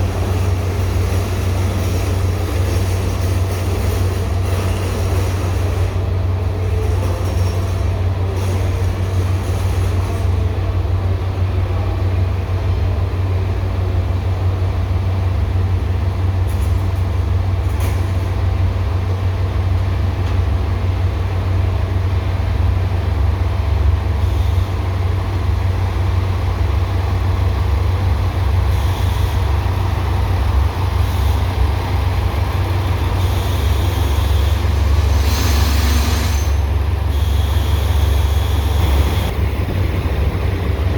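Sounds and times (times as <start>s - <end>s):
train rumbling: 0.0s - 40.9s.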